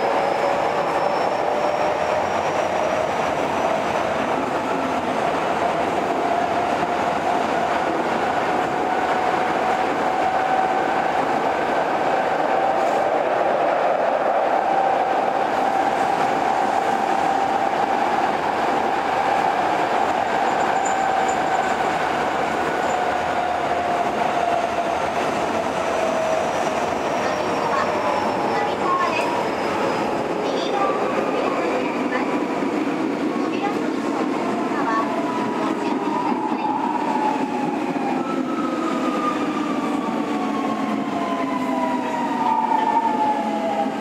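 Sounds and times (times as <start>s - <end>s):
subway train rumbling with whine: 0.0s - 44.0s.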